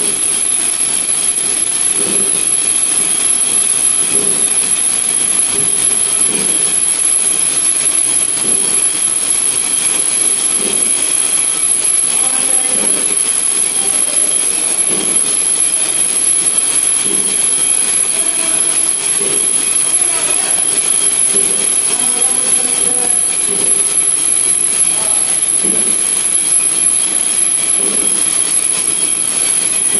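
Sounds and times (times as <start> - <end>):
nail making machine running: 0.0 - 29.9.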